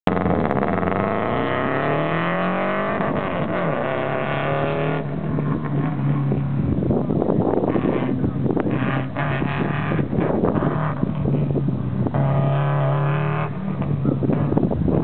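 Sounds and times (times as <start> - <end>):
car engine accelerating hard: 0.1 - 15.0.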